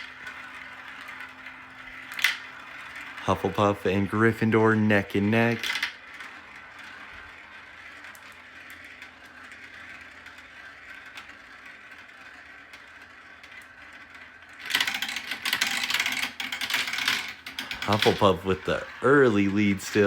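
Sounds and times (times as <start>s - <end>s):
marbles rolling on a track: 0.0s - 20.0s.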